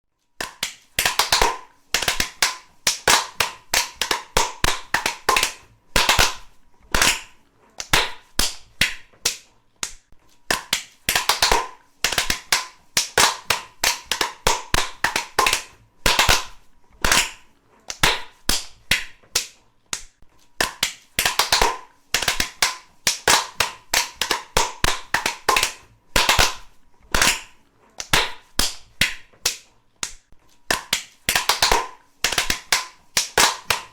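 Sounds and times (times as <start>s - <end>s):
slow hand clapping: 0.4s - 33.9s.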